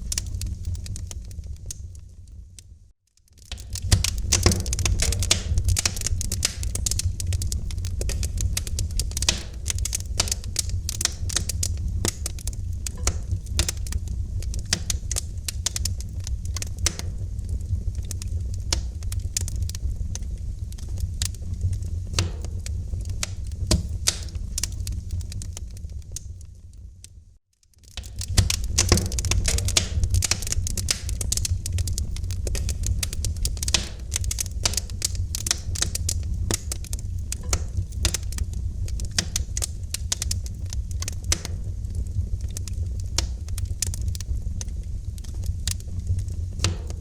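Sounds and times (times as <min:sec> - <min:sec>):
fire crackling: 0:00.0 - 0:47.0.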